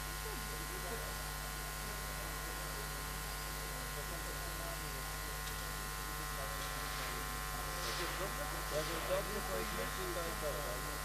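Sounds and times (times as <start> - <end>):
electrical hum and buzz: 0.0 - 11.0
faint voices chattering: 0.1 - 11.0.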